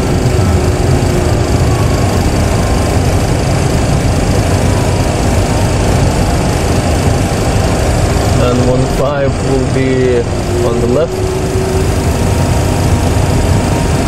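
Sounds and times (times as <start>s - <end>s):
faint thin whine: 0.0s - 14.0s
low engine rumble: 0.0s - 14.0s.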